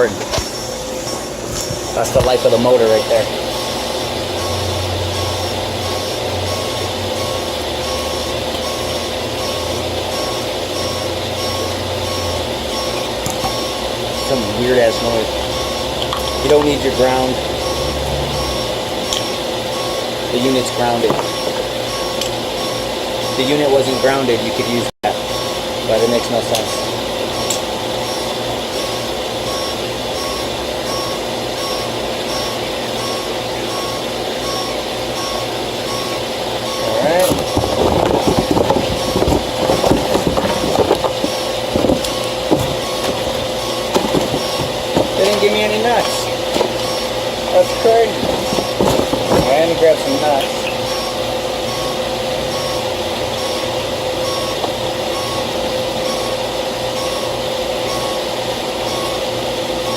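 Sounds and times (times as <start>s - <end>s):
engine running: 0.0s - 57.1s
steady machine hum: 0.0s - 59.9s
truck backup alarm beeping: 0.0s - 59.9s.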